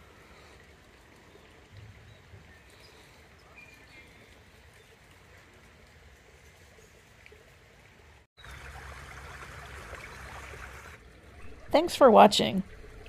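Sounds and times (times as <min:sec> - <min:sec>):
creek water trickling: 0:00.0 - 0:13.0.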